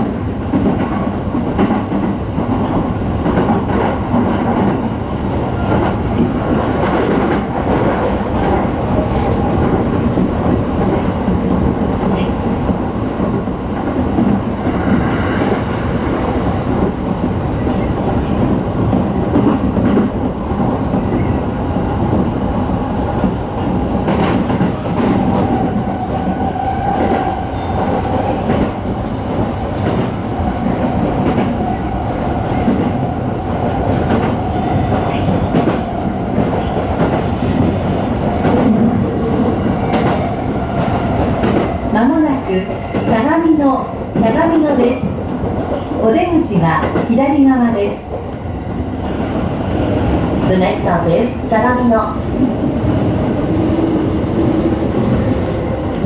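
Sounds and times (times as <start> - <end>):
train wheel rumble: 0.0 - 56.0.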